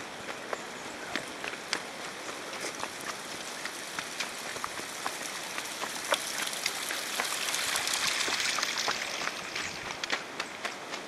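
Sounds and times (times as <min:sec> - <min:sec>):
footsteps on gravel path: 0:00.0 - 0:11.0
steady rushing hiss: 0:00.0 - 0:11.0.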